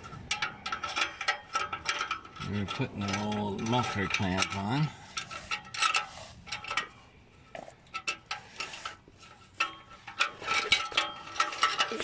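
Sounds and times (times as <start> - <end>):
metallic clicks and scrapes: 0.0 - 12.0.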